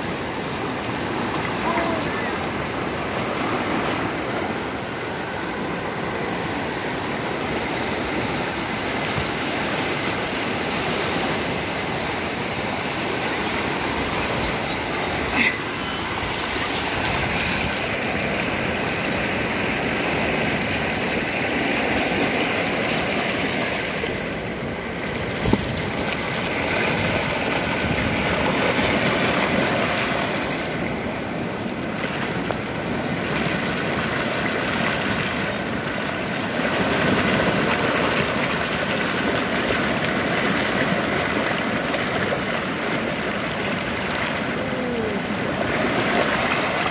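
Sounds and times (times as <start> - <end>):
whitewater rapids rushing: 0.0 - 46.9.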